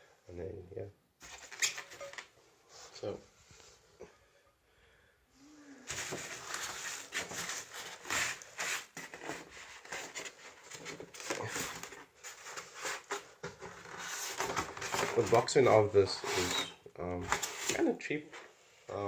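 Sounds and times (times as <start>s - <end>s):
cardboard and plastic rustling: 1.2s - 3.8s, 5.8s - 18.6s.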